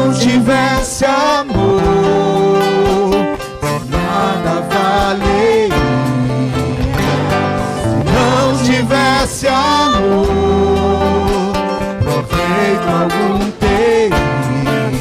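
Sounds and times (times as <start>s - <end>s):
worship band instrumental music: 0.0s - 15.0s.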